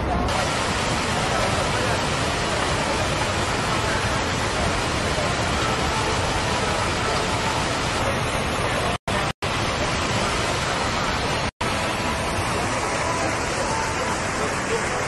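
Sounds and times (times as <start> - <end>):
loud rushing static hiss: 0.0 - 15.0.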